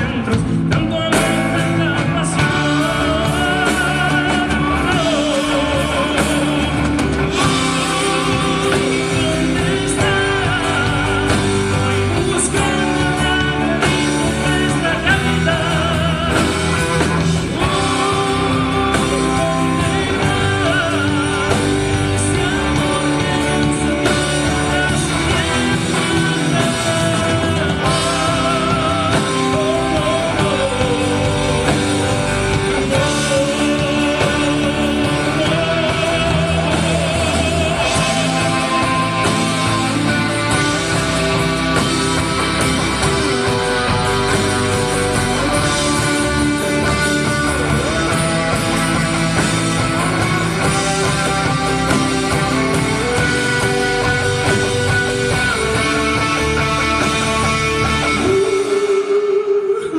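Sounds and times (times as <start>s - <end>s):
band playing a ballad: 0.0s - 59.9s
man singing: 0.0s - 59.9s.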